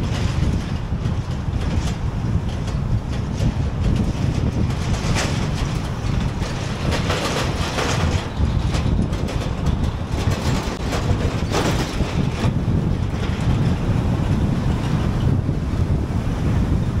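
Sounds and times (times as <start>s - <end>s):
tyre and wind road noise: 0.0s - 17.0s.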